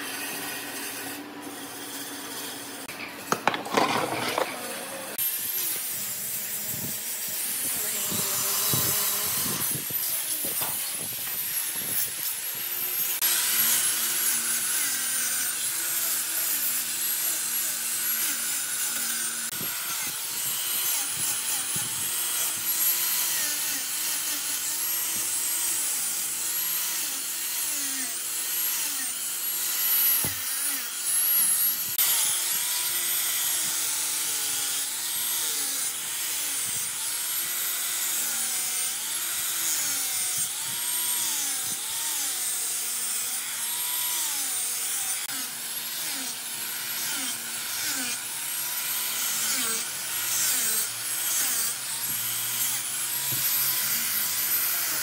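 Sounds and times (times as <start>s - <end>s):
angle grinder sanding wood: 0.0s - 55.0s.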